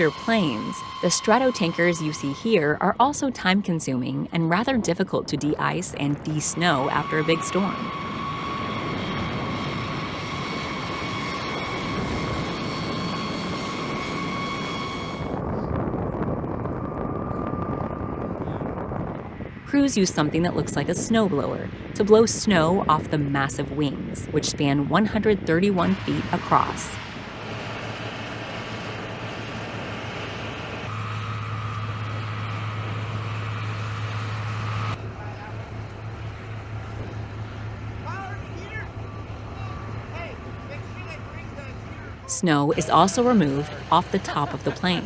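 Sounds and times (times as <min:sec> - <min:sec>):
turbine engine whine and roar: 0:00.0 - 0:45.0.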